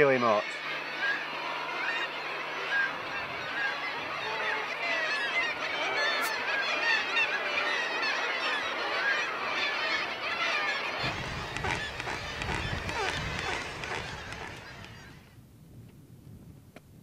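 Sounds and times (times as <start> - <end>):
seabird colony calling: 0.0 - 15.3.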